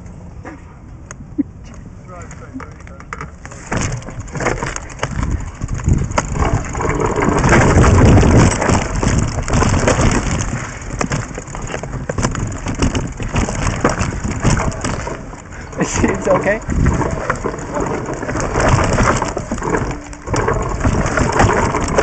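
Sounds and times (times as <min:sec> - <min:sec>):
wind rumble on microphone: 0:01.0 - 0:22.0
bike rattling over rocks: 0:02.1 - 0:22.0
tyres crunching on gravel: 0:02.1 - 0:22.0.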